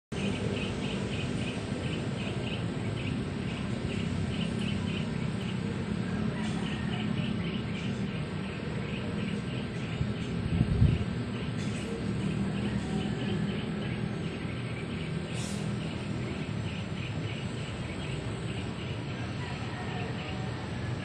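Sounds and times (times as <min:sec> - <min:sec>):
bird chirping: 0:00.2 - 0:20.5.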